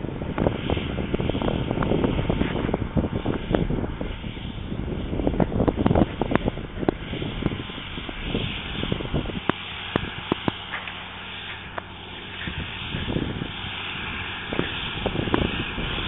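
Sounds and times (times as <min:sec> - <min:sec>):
distant tractor diesel engine: 0:00.0 - 0:16.0.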